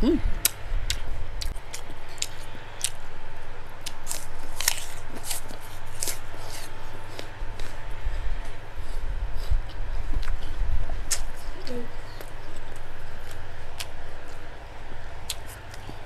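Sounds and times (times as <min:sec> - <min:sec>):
apple being bitten and chewed: 0:00.4 - 0:03.1, 0:03.8 - 0:14.5, 0:15.2 - 0:16.0.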